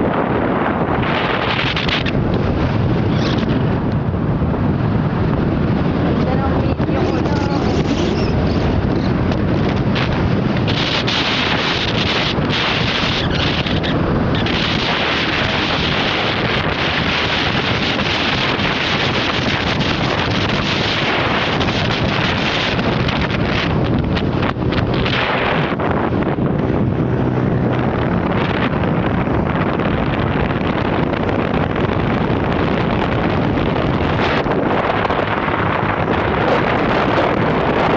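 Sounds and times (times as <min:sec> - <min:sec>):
vehicle running noise: 0:00.0 - 0:37.9
wind buffeting microphone: 0:00.0 - 0:37.9.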